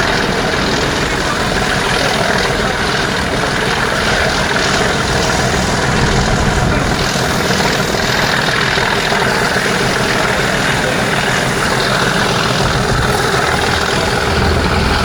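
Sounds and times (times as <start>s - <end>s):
locomotive diesel engine thrashing: 0.0s - 15.0s.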